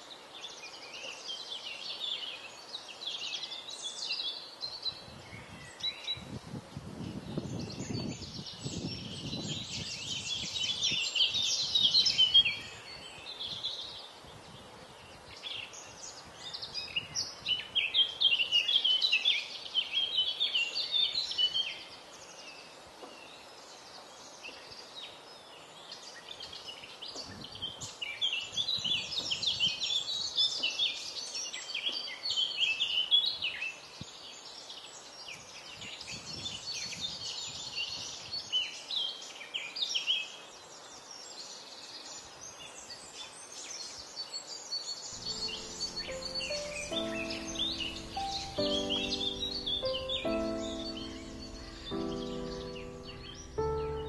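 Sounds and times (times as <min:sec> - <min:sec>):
faint outdoor background: 0:00.0 - 0:54.0
songbirds twittering: 0:00.0 - 0:54.0.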